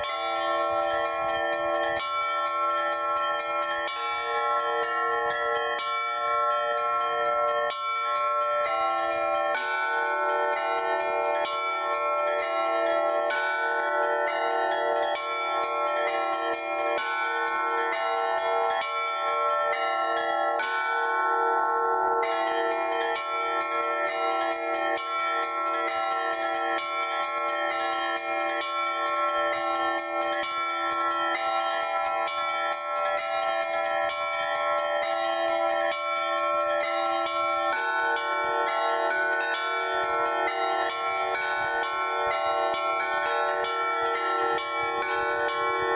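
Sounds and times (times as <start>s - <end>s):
small high bells striking rapidly: 0.0s - 21.0s, 22.2s - 45.9s
larger bells ringing: 0.0s - 45.9s.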